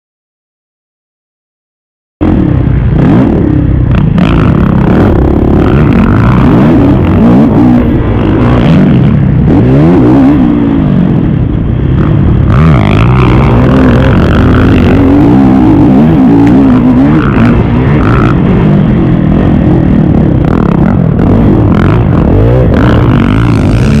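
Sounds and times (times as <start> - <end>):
motocross bike engine revving: 2.2 - 24.0.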